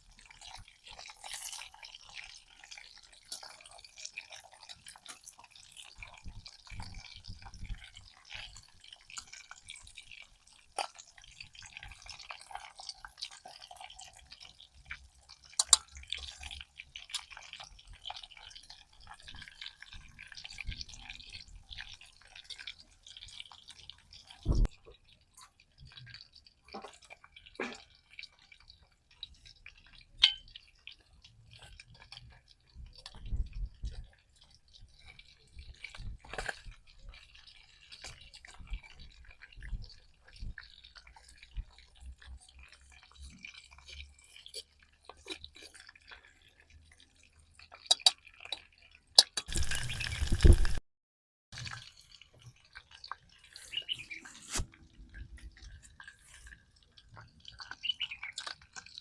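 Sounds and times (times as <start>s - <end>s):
wet clicks and taps of food: 2.8s - 13.6s, 14.3s - 49.6s, 54.9s - 59.0s.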